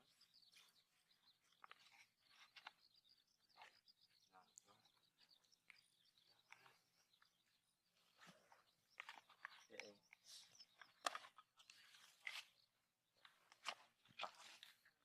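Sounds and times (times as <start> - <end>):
faint clicks and rustles: 0.0 - 15.0.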